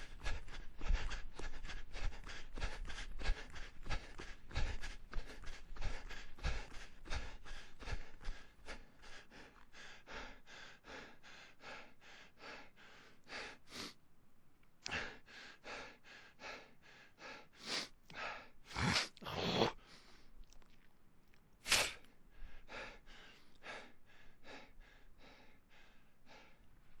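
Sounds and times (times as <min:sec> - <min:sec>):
person panting: 0:00.0 - 0:14.0, 0:14.8 - 0:20.3, 0:21.7 - 0:27.0.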